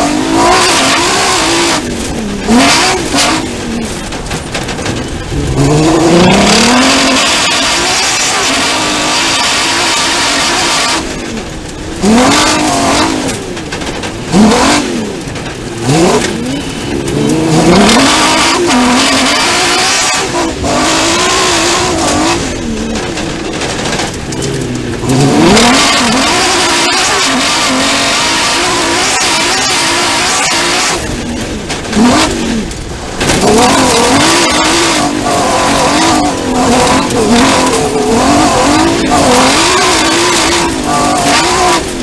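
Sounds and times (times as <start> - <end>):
racing engine revving: 0.0 - 42.0
steady rushing noise: 0.0 - 42.0.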